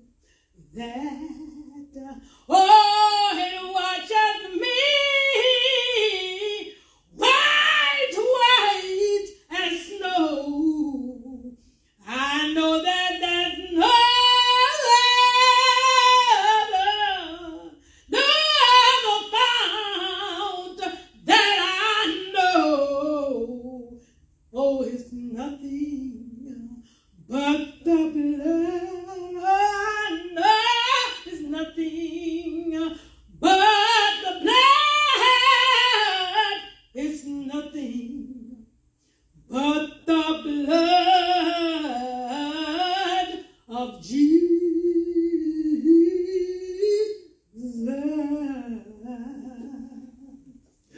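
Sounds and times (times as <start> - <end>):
woman singing unaccompanied: 0.0 - 38.6, 39.5 - 50.6.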